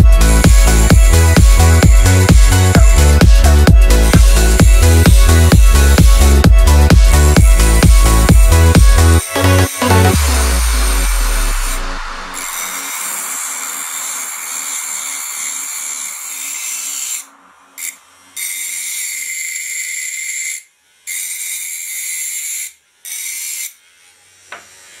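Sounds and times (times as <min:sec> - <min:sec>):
cutting disc grinding metal: 0:00.0 - 0:25.0.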